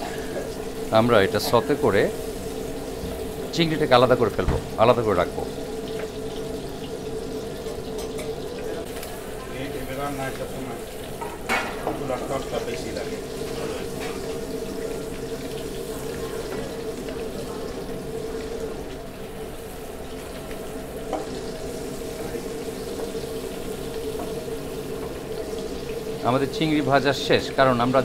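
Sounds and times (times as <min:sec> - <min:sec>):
shrimp sizzling in a pan: 0:00.0 - 0:28.0.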